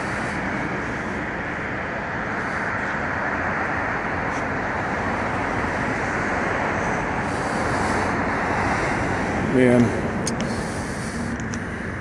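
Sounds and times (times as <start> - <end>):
steady vehicle noise: 0.0 - 12.0.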